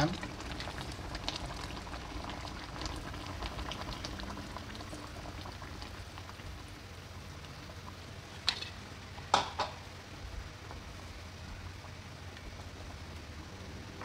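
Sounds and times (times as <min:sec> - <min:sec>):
curry bubbling and popping: 0:00.0 - 0:14.0.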